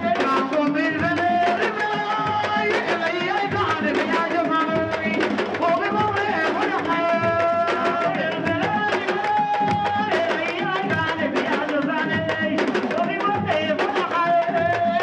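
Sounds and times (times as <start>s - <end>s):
steady drumming: 0.0s - 15.0s
woman singing into a microphone: 0.0s - 15.0s.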